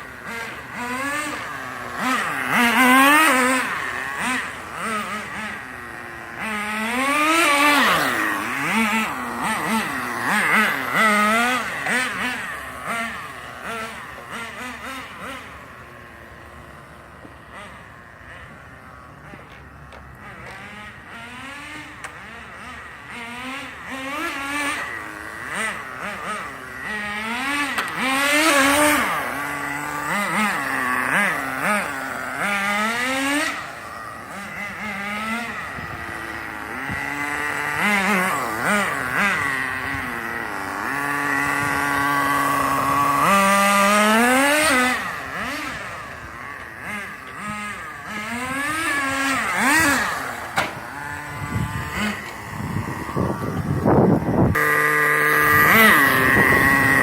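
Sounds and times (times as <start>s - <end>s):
model car engine revving: 0.0s - 57.0s.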